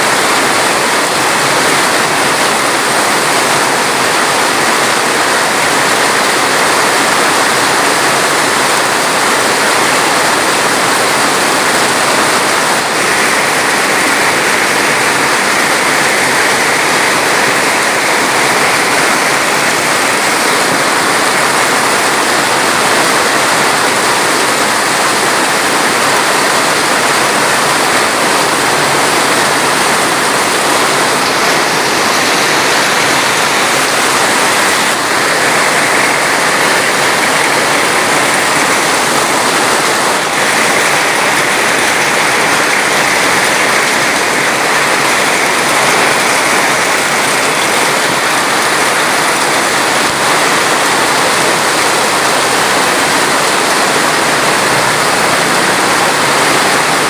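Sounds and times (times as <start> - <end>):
rushing flowing water: 0.0 - 57.0.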